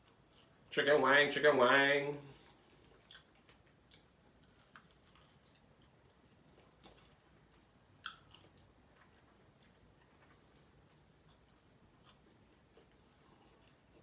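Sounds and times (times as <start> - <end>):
chewing chicken wings: 0.0 - 0.7, 2.3 - 14.0.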